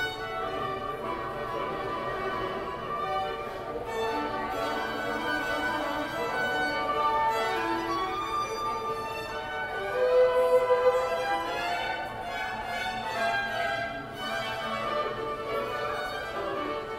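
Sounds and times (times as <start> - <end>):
violins playing long held notes: 0.0 - 16.9.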